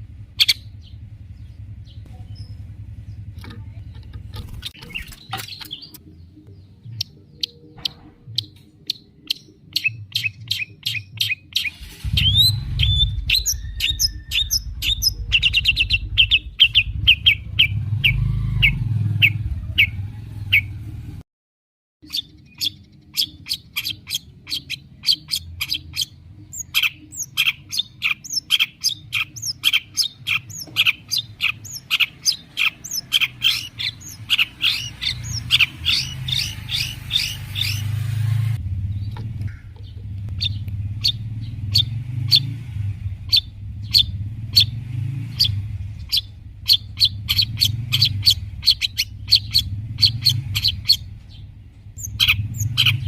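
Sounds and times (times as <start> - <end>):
low background rumble: 0.0 - 10.2, 11.8 - 21.2, 22.7 - 53.0
bird singing chattering notes: 0.0 - 20.7, 22.0 - 38.0, 38.8 - 53.0.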